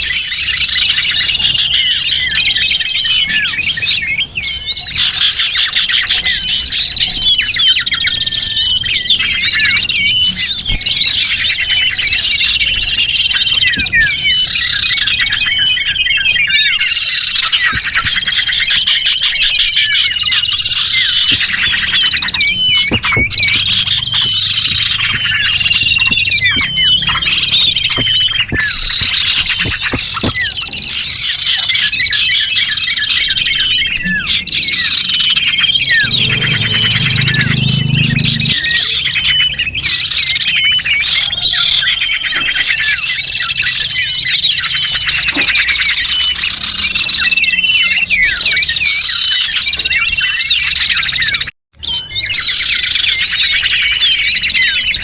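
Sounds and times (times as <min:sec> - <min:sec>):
small birds twittering: 0:00.0 - 0:55.0.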